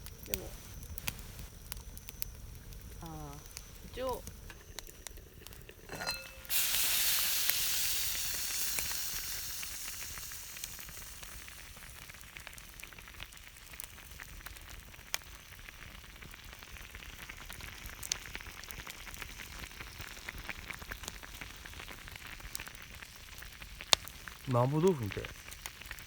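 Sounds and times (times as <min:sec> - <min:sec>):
food sizzling in hot skillet: 0:00.0 - 0:26.0
wood fire crackling: 0:00.0 - 0:26.0.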